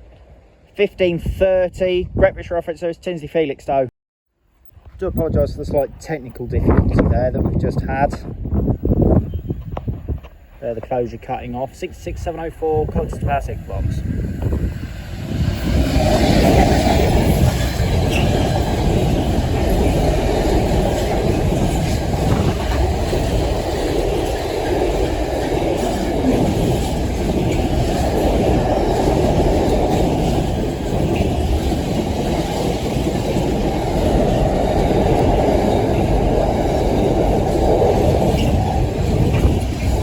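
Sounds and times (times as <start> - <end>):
freight train wheels on rails: 4.7 - 40.0.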